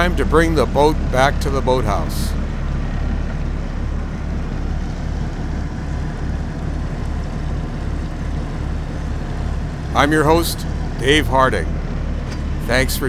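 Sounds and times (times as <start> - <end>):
motorboat engines throbbing: 0.0 - 13.0.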